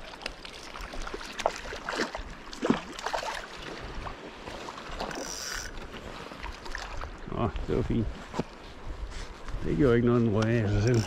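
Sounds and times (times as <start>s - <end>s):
seawater splashing and sloshing: 0.0s - 9.4s.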